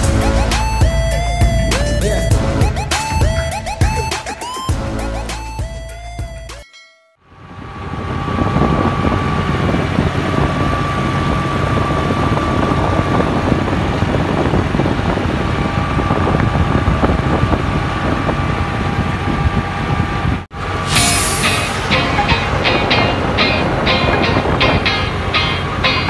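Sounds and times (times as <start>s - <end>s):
tractor diesel engine drone: 0.0s - 6.5s, 7.3s - 26.0s.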